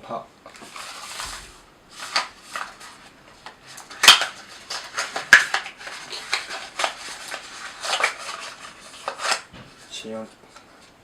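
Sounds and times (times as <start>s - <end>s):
packaging rustling: 0.5s - 9.9s.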